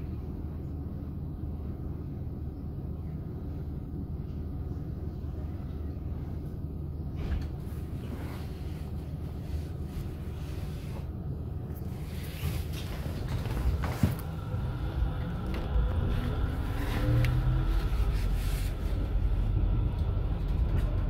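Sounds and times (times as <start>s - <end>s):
tram low rumble: 0.0s - 21.0s.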